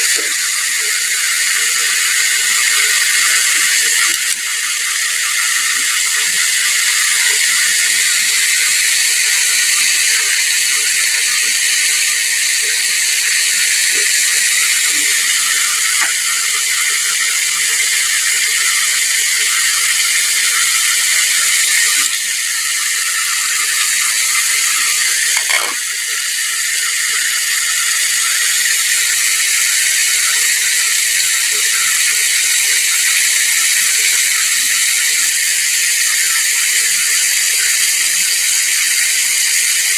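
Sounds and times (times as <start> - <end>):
chicken sizzling in hot oil: 0.0 - 39.9.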